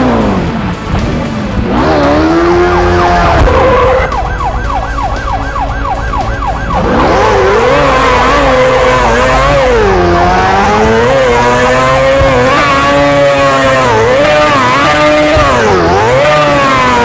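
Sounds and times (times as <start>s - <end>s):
motorcycle engines revving: 0.0s - 17.0s
siren yelping: 2.0s - 17.0s.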